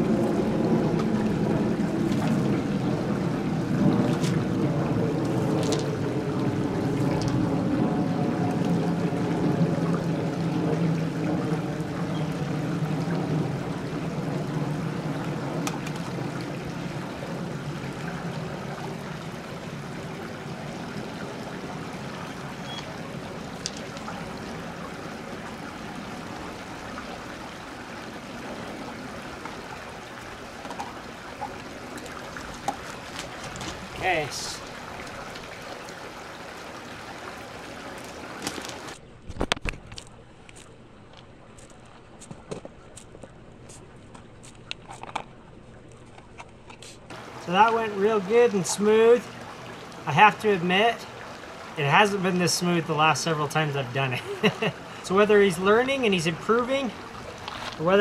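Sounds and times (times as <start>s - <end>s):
distant engine hum: 0.0s - 58.0s
water trickling: 0.0s - 58.0s.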